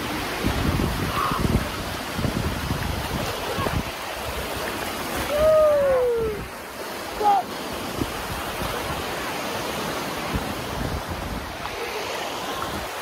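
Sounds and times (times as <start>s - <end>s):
wind buffeting microphone: 0.0s - 6.7s, 7.7s - 13.0s
surf washing on beach: 0.0s - 13.0s.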